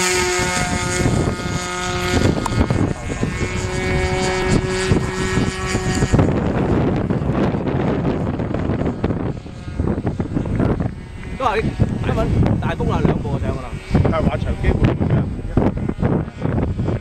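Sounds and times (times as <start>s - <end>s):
model airplane motor and propeller: 0.0s - 17.0s
rough noisy rumble: 0.0s - 17.0s.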